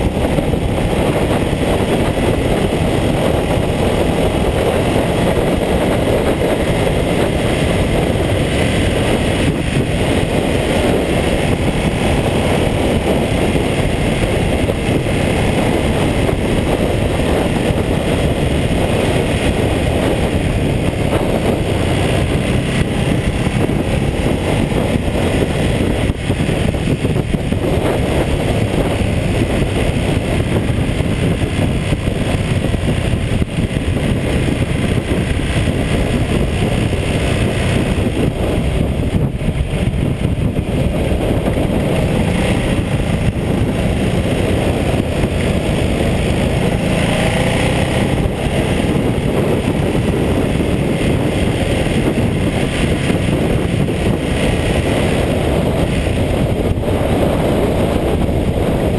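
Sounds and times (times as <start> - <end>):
motorcycle engine cruising: 0.0 - 58.9
wind rush on microphone: 0.0 - 58.9.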